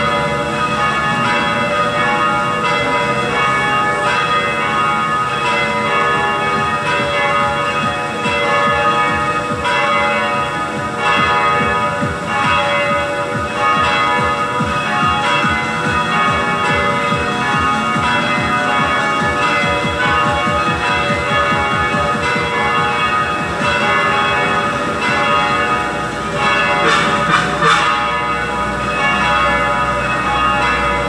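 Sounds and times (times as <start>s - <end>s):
church bells ringing: 0.0s - 31.0s.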